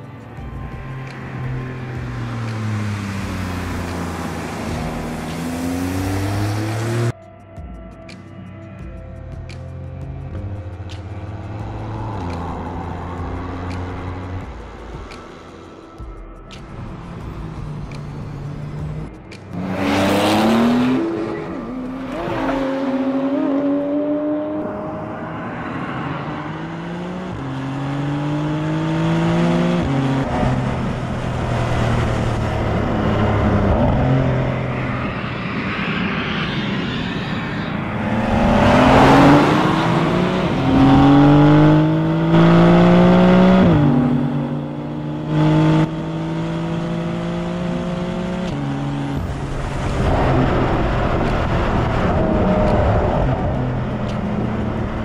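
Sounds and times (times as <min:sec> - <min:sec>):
car engine accelerating hard: 0:00.8 - 0:07.1, 0:17.1 - 0:55.0.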